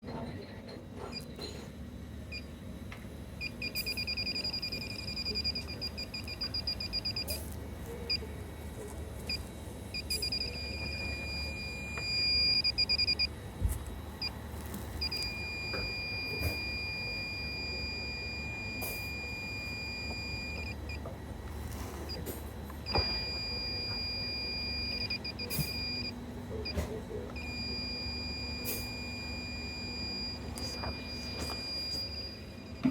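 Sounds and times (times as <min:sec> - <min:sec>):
low steady hum: 0:00.0 - 0:32.9
leak detector beeping: 0:03.4 - 0:08.3, 0:09.2 - 0:13.4, 0:14.2 - 0:21.1, 0:21.7 - 0:32.9.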